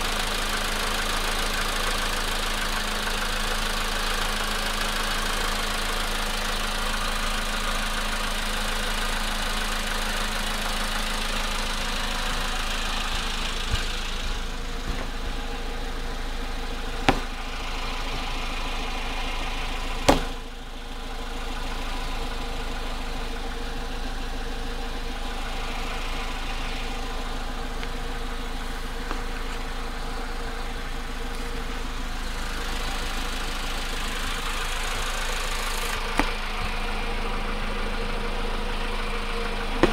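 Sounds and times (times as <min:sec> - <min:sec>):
car engine idling with knocking: 0:00.0 - 0:39.9.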